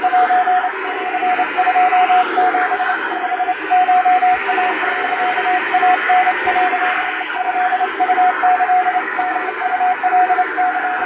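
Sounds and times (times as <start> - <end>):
morse code tone: 0.0 - 11.0.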